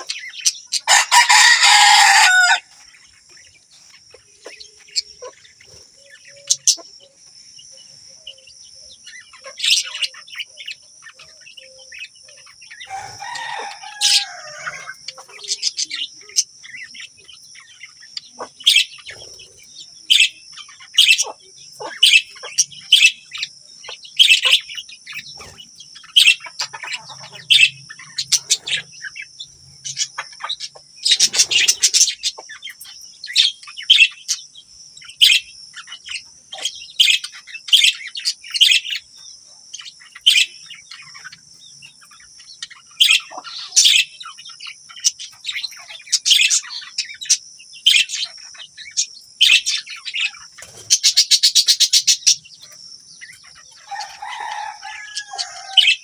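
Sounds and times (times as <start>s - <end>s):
rattling bird trills: 0.0s - 7.1s, 8.3s - 56.0s
budgerigars chirping: 0.0s - 56.0s.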